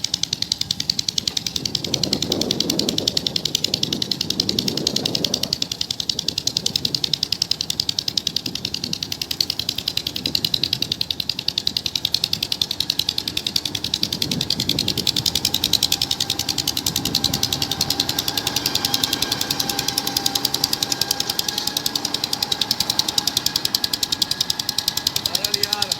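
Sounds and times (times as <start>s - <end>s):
faint steady whine: 0.0s - 25.9s
harvester machinery clicking: 0.0s - 25.9s.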